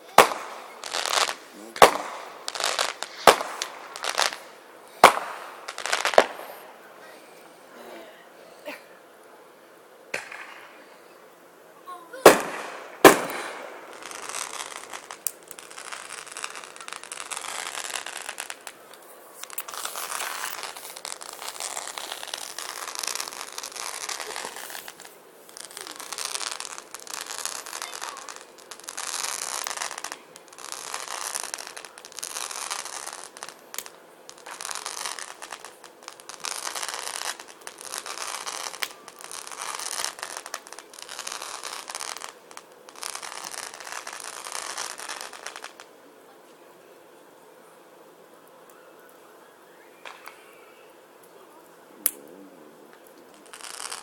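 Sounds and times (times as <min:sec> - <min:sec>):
fireworks bangs: 0:00.0 - 0:07.7, 0:10.1 - 0:11.3, 0:11.9 - 0:45.9, 0:48.6 - 0:54.0
hissing crackling firework bursts: 0:00.0 - 0:54.0.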